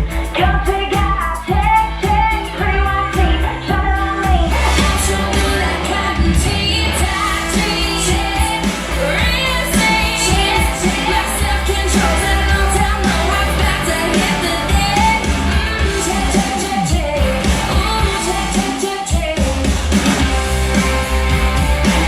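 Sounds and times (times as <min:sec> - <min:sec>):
pop song with female vocal: 0:00.0 - 0:22.0.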